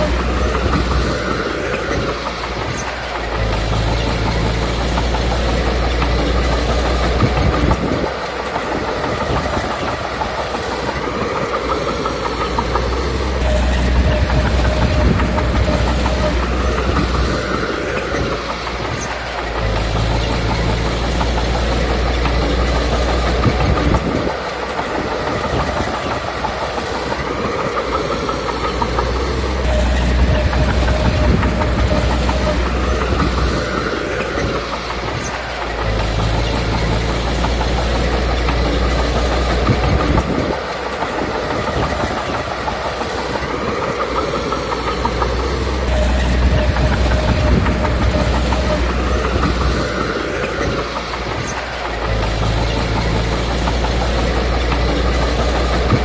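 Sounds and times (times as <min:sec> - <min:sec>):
bulldozer diesel engine rumbling: 0:00.0 - 0:56.0
steel tracks clanking: 0:00.0 - 0:56.0.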